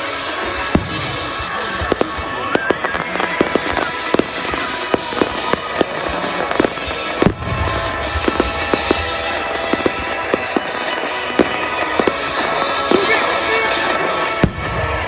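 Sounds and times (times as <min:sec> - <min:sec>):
background music: 0:00.0 - 0:15.0
fireworks crackling and banging: 0:00.0 - 0:15.0
rising firework whistle: 0:00.0 - 0:15.0
heavy firework boom: 0:00.5 - 0:13.0, 0:14.4 - 0:15.0.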